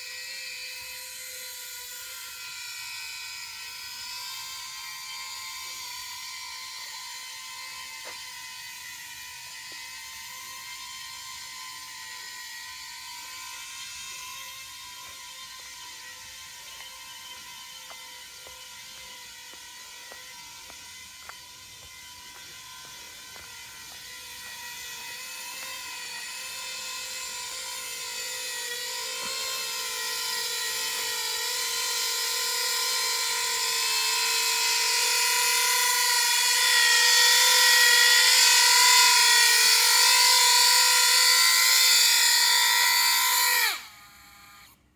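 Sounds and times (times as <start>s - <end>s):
drone motors and propellers whining: 0.0s - 44.9s.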